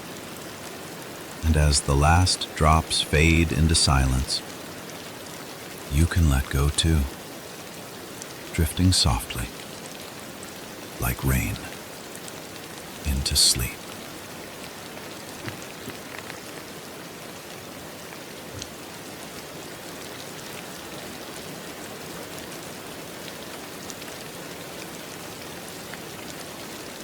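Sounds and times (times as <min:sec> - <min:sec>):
rain falling on a surface: 0:00.0 - 0:13.1, 0:13.7 - 0:27.0.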